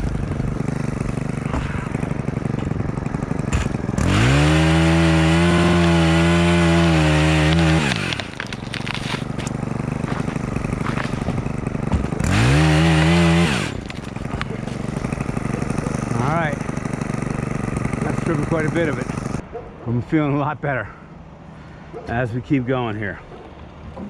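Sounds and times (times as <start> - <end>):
chainsaw revving and idling: 0.0 - 19.4.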